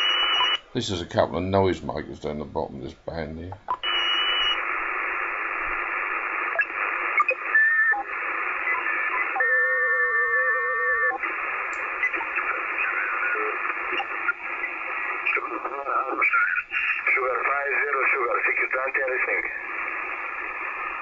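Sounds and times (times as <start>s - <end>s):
radio hiss: 0.0s - 21.0s
warbling radio tones: 3.8s - 21.0s.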